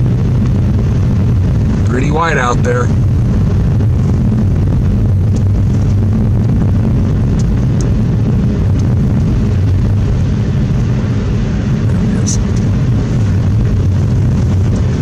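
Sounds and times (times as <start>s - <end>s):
car engine and tyres humming: 0.0s - 15.0s.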